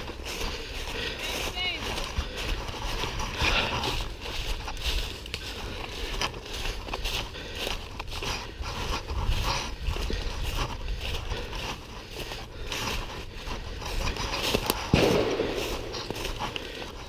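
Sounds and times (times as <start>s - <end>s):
footsteps through dry leaves: 0.0s - 17.0s.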